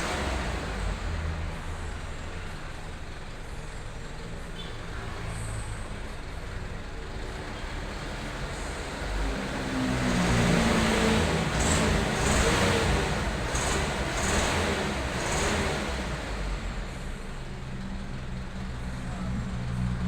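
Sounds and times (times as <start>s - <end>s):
truck engine revving: 0.0s - 3.6s, 5.2s - 20.0s.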